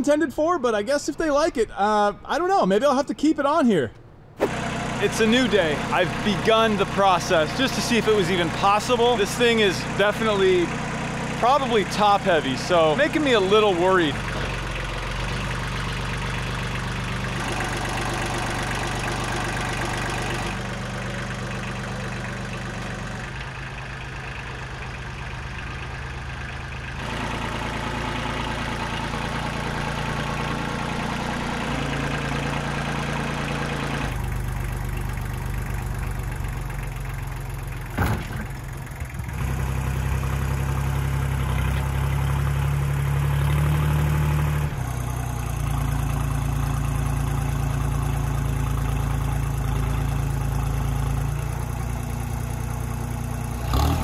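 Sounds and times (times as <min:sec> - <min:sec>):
tractor diesel engine running: 0:03.9 - 0:54.0.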